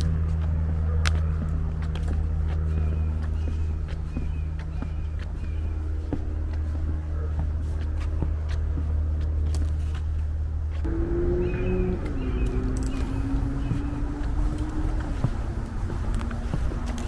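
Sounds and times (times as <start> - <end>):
footsteps on wooden boards: 0.0 - 17.0
low mechanical hum: 0.0 - 17.0.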